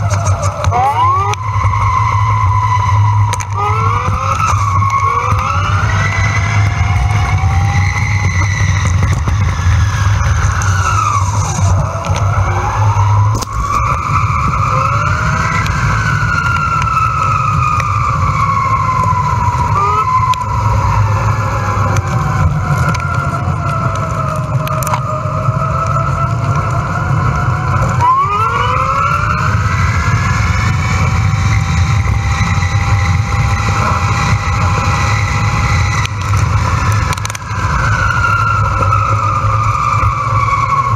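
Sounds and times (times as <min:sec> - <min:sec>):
electric motor whine: 0:00.0 - 0:25.2, 0:25.8 - 0:40.9
wind rumble on microphone: 0:00.0 - 0:40.9.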